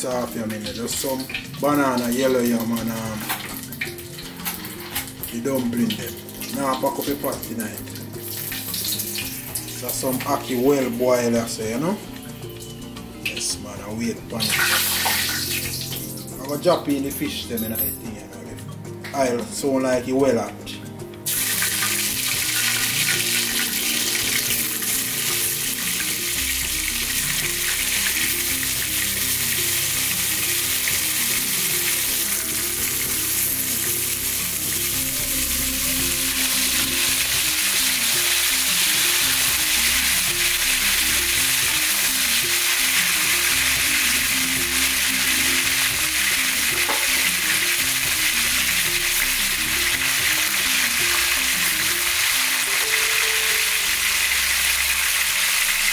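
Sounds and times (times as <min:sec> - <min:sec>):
fish frying in hot oil: 0:00.0 - 0:13.6, 0:14.3 - 0:16.5, 0:21.3 - 0:55.9.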